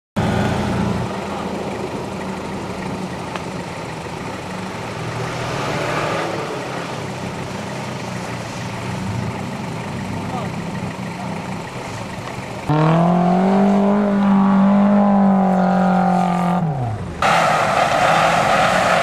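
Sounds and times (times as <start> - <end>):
truck engine running at low revs: 0.2 - 19.0.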